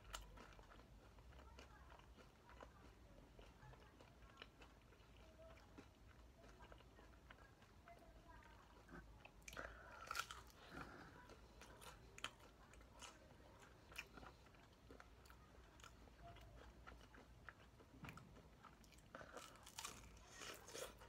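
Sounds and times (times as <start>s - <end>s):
chewing crispy fried chicken: 0.0s - 21.0s.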